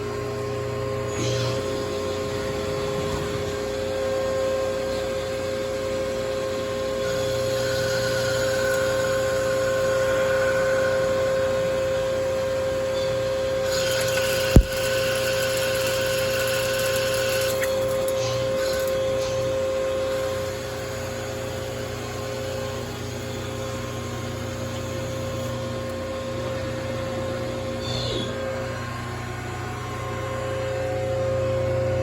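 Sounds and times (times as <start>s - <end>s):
lathe humming with whine: 0.0s - 32.0s.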